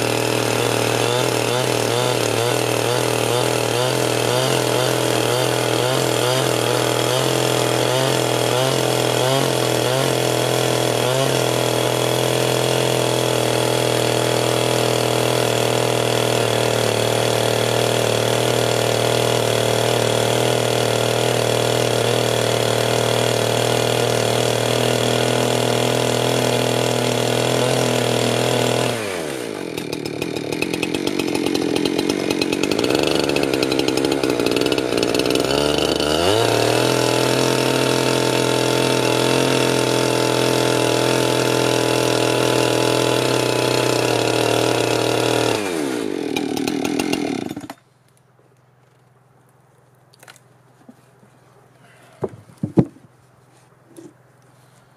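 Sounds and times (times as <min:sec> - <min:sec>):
chainsaw cutting wood: 0:00.0 - 0:47.9, 0:50.2 - 0:51.0, 0:51.8 - 0:53.1.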